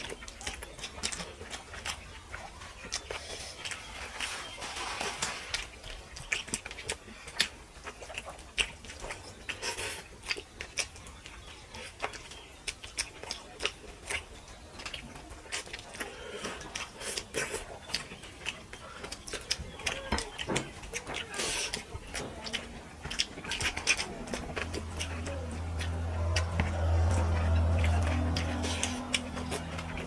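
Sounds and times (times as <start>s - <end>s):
chewing and mouth smacks: 0.0s - 30.0s.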